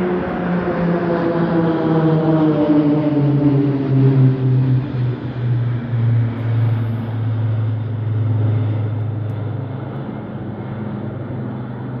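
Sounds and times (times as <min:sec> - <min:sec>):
aircraft engine drone overhead: 0:00.0 - 0:12.0.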